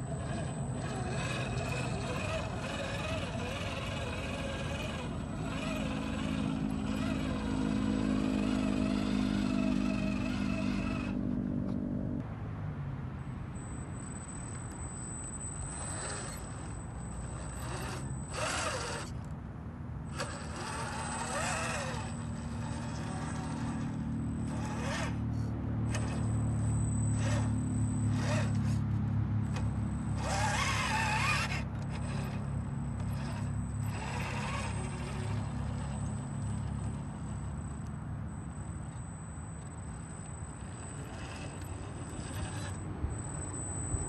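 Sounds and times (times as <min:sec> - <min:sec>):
electric motor whining: 0:00.0 - 0:11.5, 0:13.6 - 0:19.3, 0:20.1 - 0:44.0.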